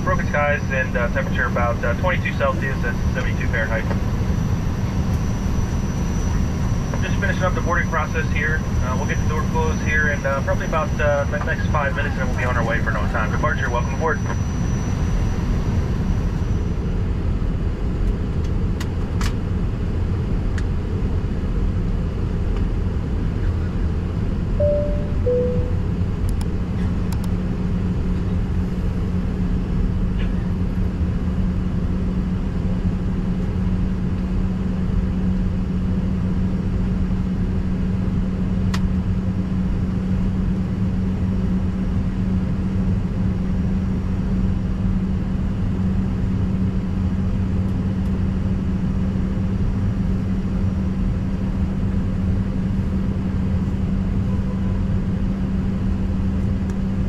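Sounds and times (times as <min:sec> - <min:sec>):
aircraft cabin drone: 0:00.0 - 0:57.0.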